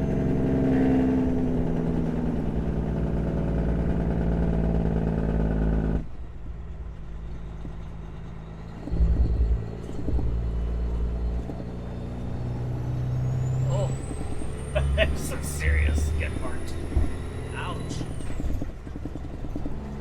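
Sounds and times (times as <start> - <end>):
diesel truck engine running: 0.0 - 20.0
vehicle rumble: 0.0 - 20.0.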